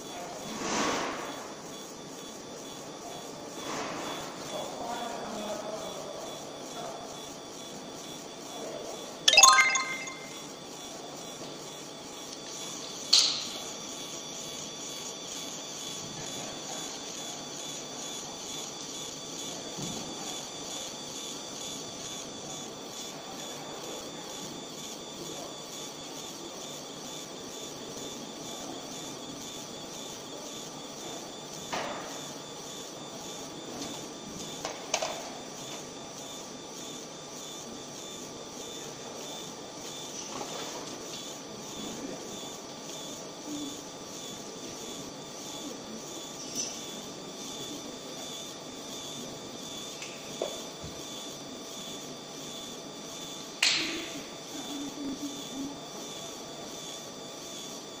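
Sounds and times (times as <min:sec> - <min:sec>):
laser marking machine hiss: 0:00.0 - 0:09.2, 0:10.2 - 0:58.0.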